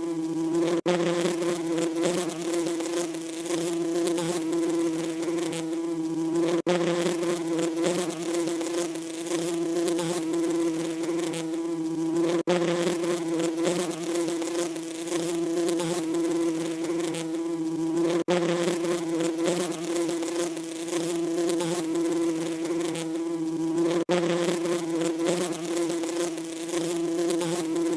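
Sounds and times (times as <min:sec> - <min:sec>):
bees buzzing: 0:00.0 - 0:27.9.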